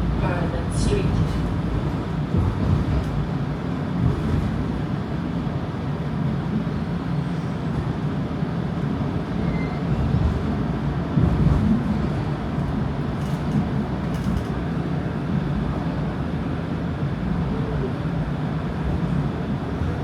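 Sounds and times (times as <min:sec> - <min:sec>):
streetcar motors and wheels rumbling: 0:00.0 - 0:20.0.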